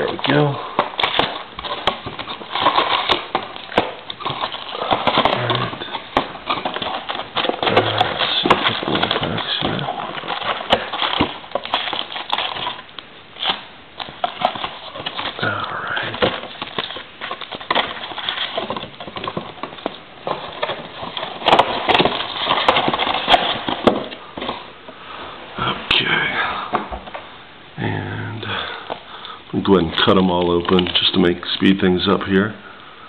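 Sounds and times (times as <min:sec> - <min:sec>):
card pack wrappers crackling: 0:00.0 - 0:24.8, 0:28.6 - 0:32.4.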